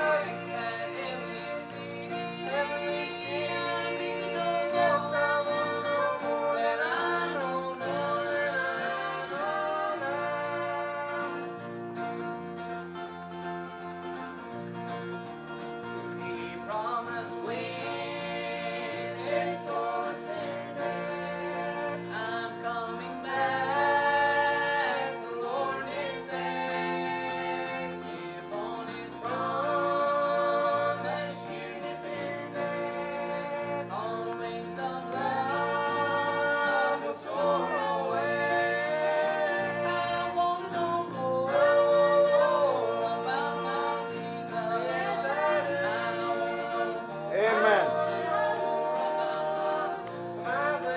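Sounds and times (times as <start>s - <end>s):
gospel singing voices: 0.0s - 50.9s
guitar accompaniment: 0.0s - 50.9s.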